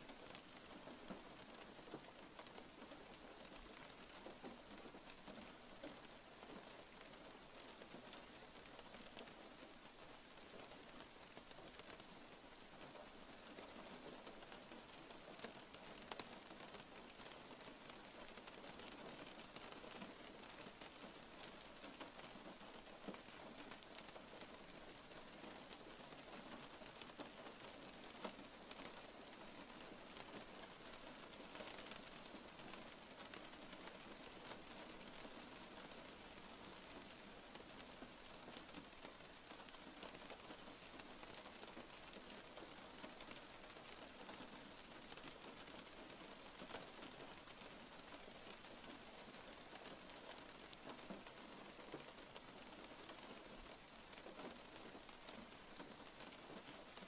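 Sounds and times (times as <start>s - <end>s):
faint raindrop ticks: 0.0s - 57.0s
rain hiss: 0.0s - 57.0s.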